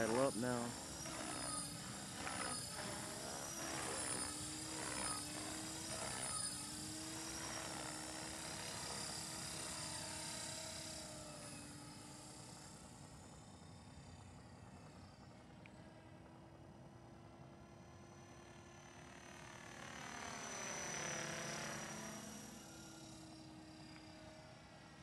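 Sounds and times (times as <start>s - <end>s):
rc helicopter motor whine: 0.0s - 25.0s.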